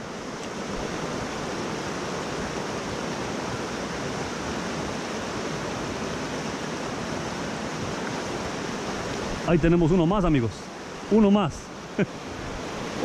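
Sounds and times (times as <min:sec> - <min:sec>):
river rapids rushing over rocks: 0:00.0 - 0:13.0.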